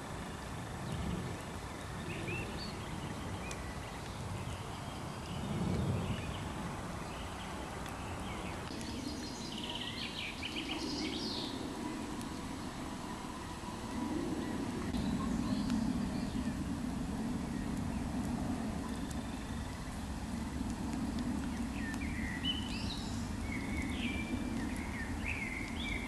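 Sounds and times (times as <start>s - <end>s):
low rumble: 0.0s - 26.0s
outdoor background hiss: 0.0s - 26.0s
wild birds chirping and singing: 0.0s - 26.0s.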